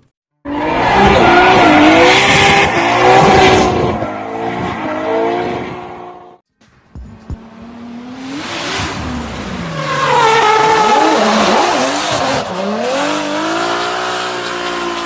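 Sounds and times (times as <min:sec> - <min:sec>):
car engine revving: 0:00.5 - 0:06.4, 0:07.2 - 0:15.0.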